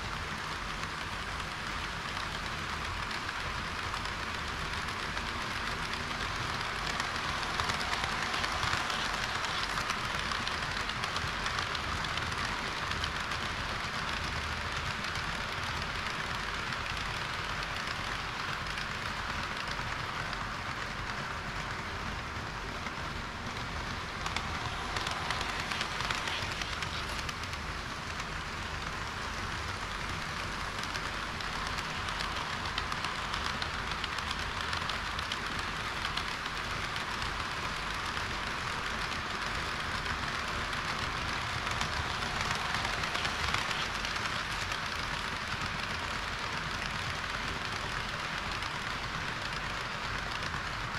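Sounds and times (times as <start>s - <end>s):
model trains clattering on track: 0.0s - 50.9s.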